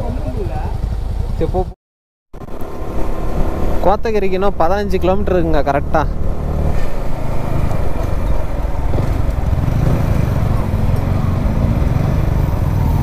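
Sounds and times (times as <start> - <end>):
motorcycle engine running: 0.0 - 1.8, 2.4 - 13.0
wind and road noise: 2.4 - 13.0.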